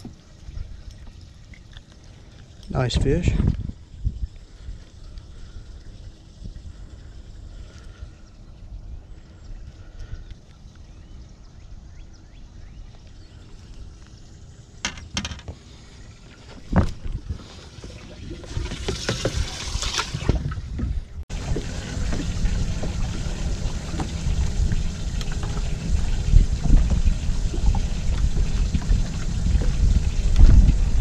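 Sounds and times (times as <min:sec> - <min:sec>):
rush of wind and water: 0:00.0 - 0:14.6, 0:15.5 - 0:31.0
water splashing and trickling: 0:00.0 - 0:31.0.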